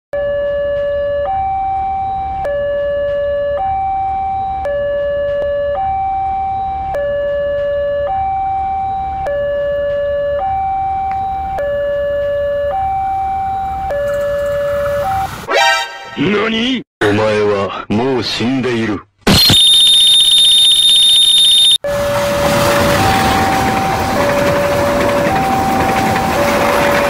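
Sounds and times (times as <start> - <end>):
two-tone hi-lo siren: 0.1 - 16.2, 19.3 - 27.0.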